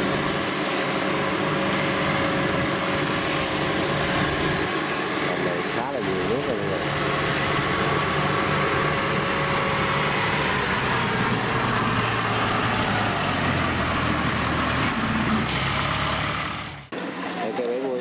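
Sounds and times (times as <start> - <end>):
tracked vehicle engine droning: 0.0 - 18.0.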